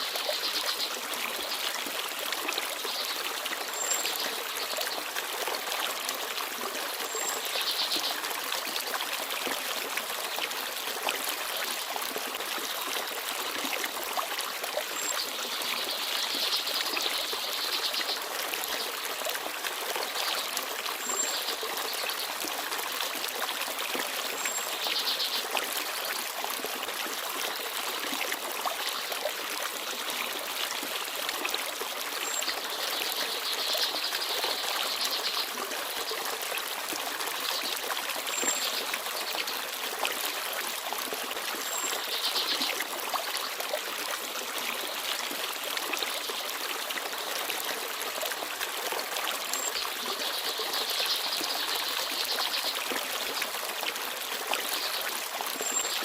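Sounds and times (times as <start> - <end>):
stream babbling and trickling: 0.0 - 56.0.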